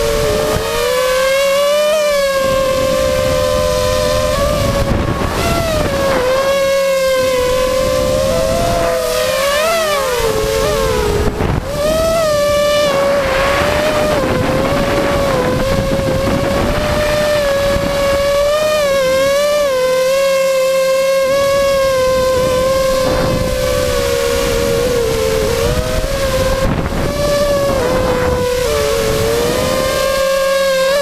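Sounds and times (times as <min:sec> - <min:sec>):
engine running at high speed: 0:00.0 - 0:31.0.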